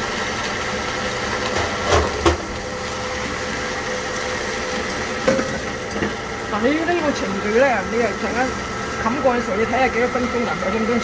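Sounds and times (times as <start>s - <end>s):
appliance motor humming: 0.0s - 11.0s.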